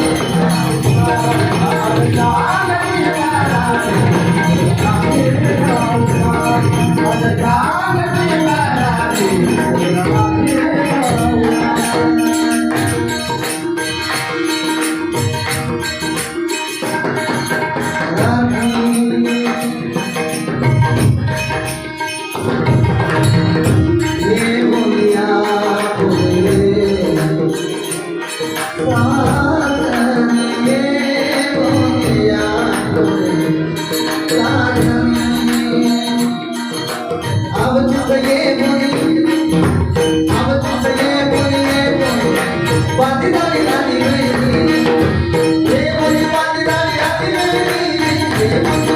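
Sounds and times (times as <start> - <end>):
man singing devotional song: 0.0 - 48.9
percussion beat: 0.0 - 48.9.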